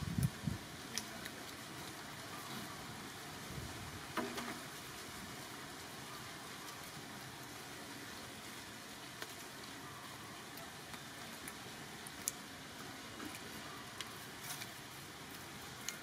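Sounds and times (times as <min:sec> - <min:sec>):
faint background hiss: 0:00.0 - 0:16.0.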